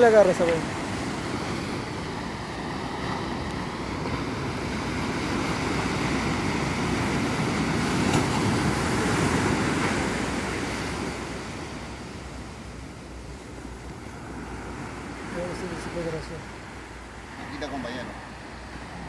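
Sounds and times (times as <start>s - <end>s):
surf breaking on shore: 0.0s - 19.0s.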